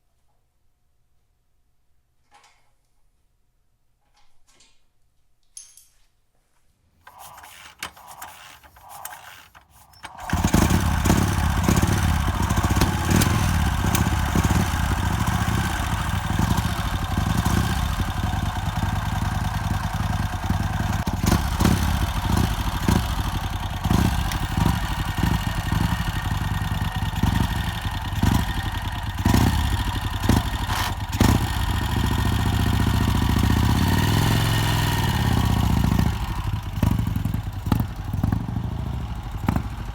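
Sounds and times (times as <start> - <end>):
motorcycle engine starting: 7.0 - 39.9.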